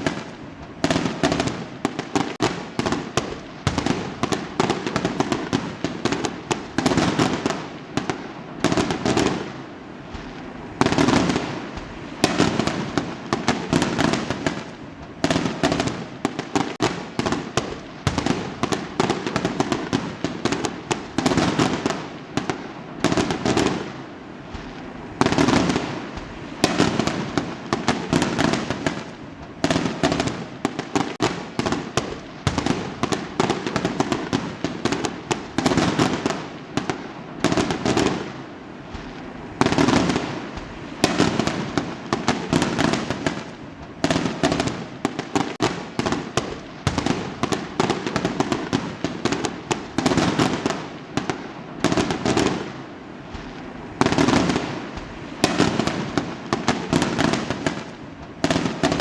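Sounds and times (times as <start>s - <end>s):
fireworks exploding: 0.0s - 59.0s.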